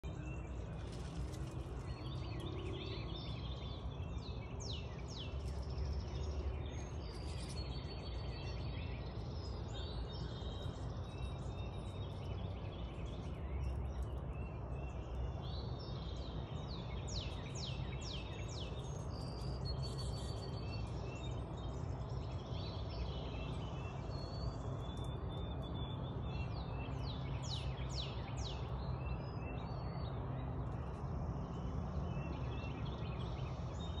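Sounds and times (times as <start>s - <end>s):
songbirds chirping and singing: 0.0s - 34.0s.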